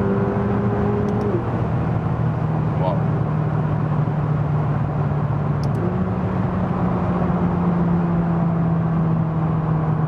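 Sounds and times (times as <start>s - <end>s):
car engine drone: 0.0s - 10.0s
road and wind noise: 0.0s - 10.0s.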